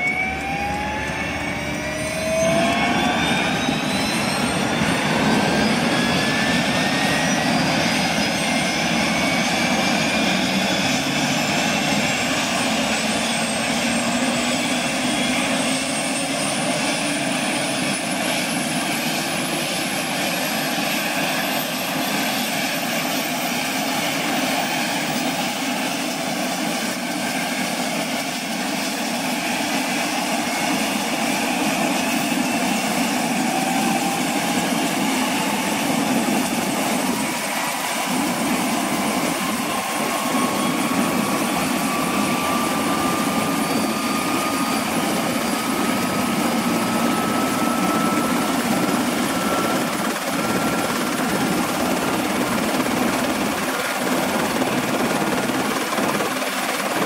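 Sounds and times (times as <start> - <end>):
helicopter rotor turning: 0.0 - 57.0
helicopter turbine whine: 0.0 - 57.0.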